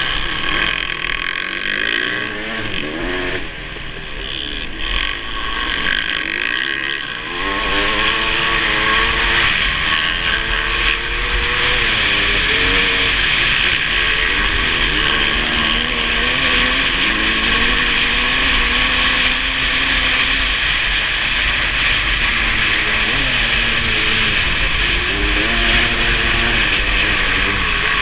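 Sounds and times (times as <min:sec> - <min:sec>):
two-stroke motocross engine revving: 0:00.0 - 0:28.0.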